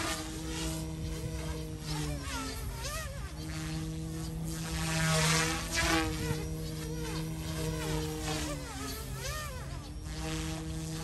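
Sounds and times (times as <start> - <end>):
rc helicopter whining: 0.0 - 11.0.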